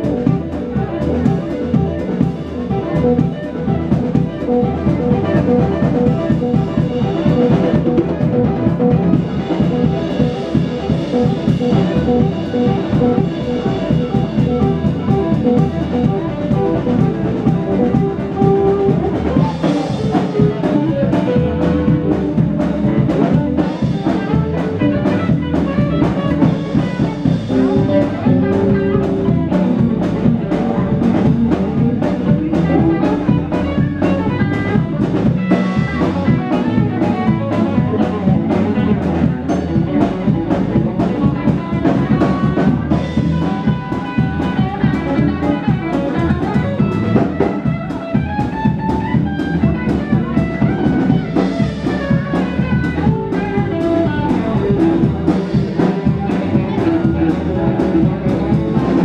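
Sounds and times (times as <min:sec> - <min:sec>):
bass guitar: 0:00.0 - 0:59.0
drum kit: 0:00.0 - 0:59.0
electric guitars: 0:00.0 - 0:59.0
saxophone: 0:00.0 - 0:59.0.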